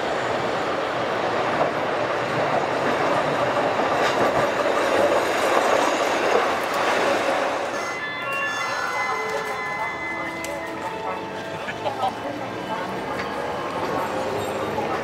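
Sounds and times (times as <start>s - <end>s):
streetcar rumbling past: 0.0s - 15.0s.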